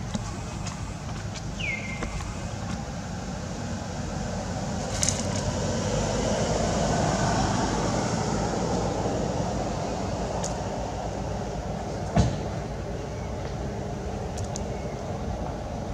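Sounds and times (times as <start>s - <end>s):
steady low rumble: 0.0s - 11.9s, 12.6s - 15.9s.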